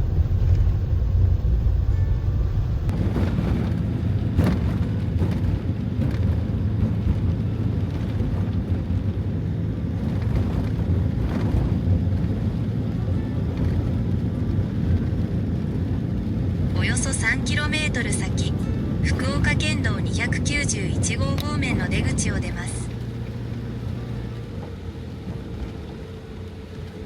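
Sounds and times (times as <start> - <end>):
van road and engine rumble: 0.0 - 27.0.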